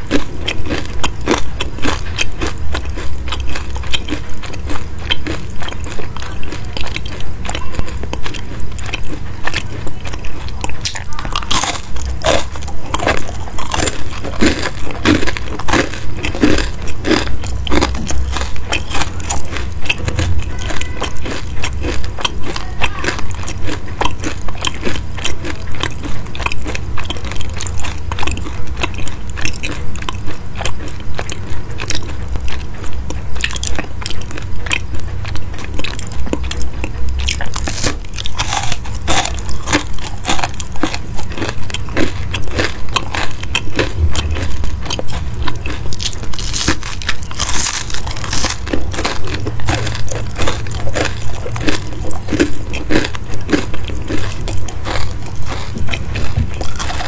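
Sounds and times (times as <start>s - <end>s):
person chewing crunchy pastry: 0.0s - 57.0s.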